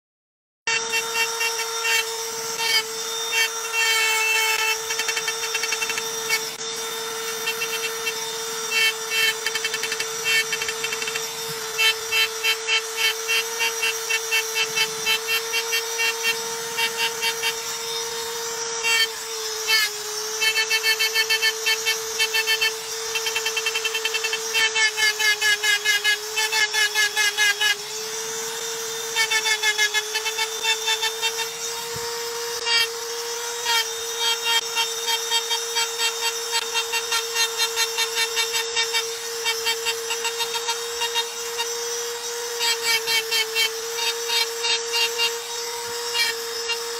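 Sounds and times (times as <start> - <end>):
electric engraving tool whine: 0.7 - 46.9
engraving bit scraping ticking: 0.7 - 46.9.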